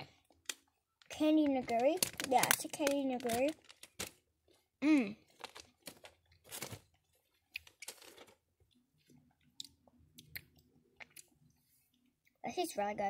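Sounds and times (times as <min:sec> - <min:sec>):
child chewing candy: 0:00.0 - 0:12.4.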